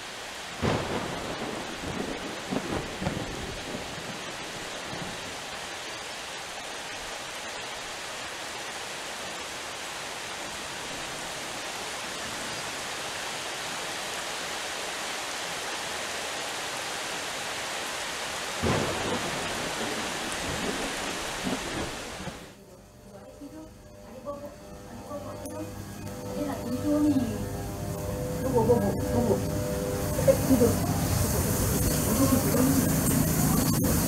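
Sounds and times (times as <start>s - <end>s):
heavy rain pouring: 0.0s - 22.6s, 25.0s - 34.0s.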